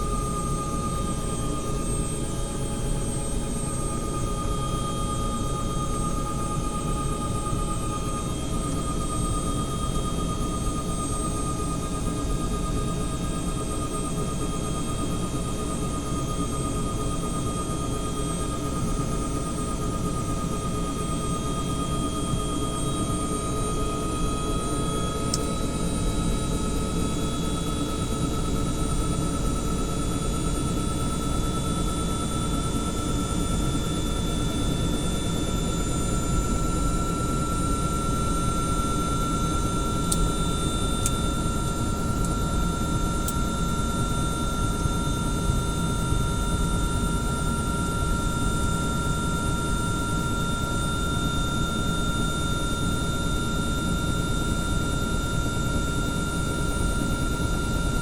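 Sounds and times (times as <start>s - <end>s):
engine and rotor rumble: 0.0s - 58.0s
helicopter turbine whine: 0.0s - 58.0s.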